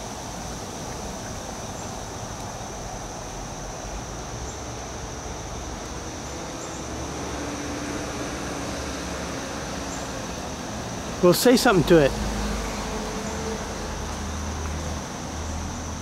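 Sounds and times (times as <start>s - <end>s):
high insect buzz: 1.7s - 16.0s.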